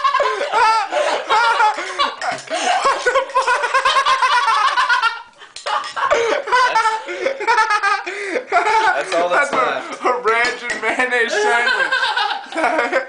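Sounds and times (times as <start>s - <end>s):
person laughing hard: 0.0s - 9.0s, 11.3s - 13.0s.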